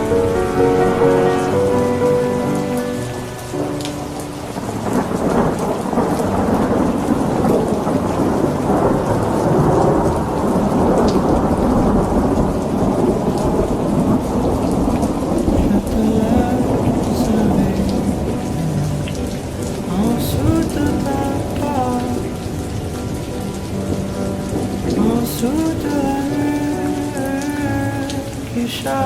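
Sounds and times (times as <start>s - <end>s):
held musical notes: 0.0s - 11.1s, 15.4s - 29.0s
rolling thunder: 0.0s - 28.7s
steady rain: 0.0s - 29.0s.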